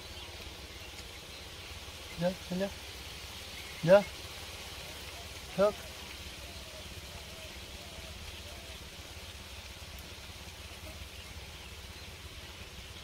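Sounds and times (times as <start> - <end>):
faint rising and falling calls: 0.0 - 13.0
outdoor background hiss: 0.0 - 13.0.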